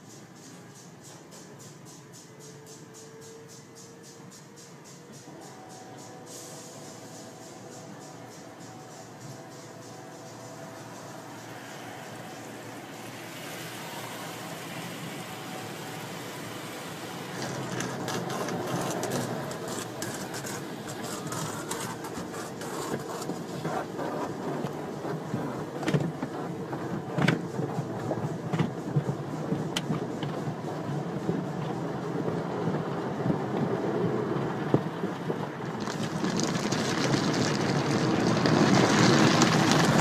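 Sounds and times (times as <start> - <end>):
car wash water jets: 0.0 - 40.0.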